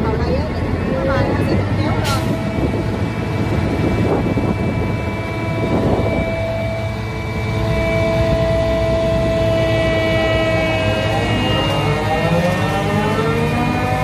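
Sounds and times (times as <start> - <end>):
winch engine running under load: 0.0 - 14.0.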